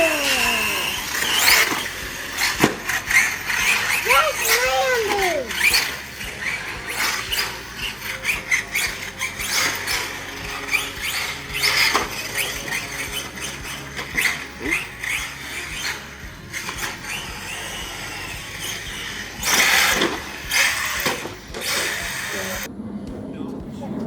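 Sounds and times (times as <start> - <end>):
electric motor whining: 0.0 - 22.7.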